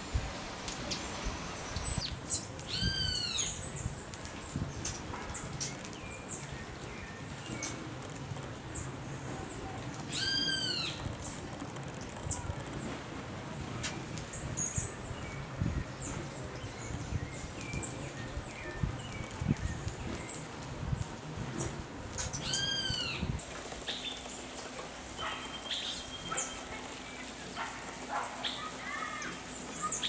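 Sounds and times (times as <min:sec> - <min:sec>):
small birds chirping: 0:00.7 - 0:12.9, 0:13.6 - 0:30.0.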